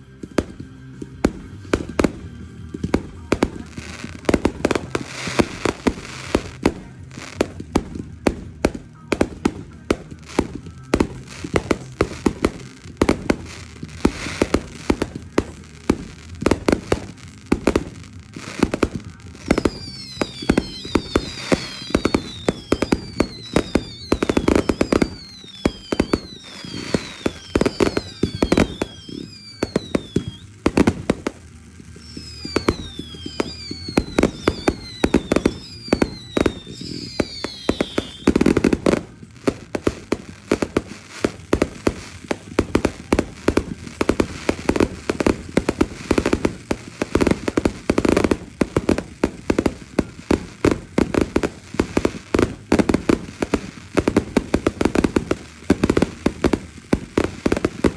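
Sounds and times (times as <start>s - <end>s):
falling fireworks whistles: 0.0s - 57.9s
fireworks bangs: 0.0s - 57.9s.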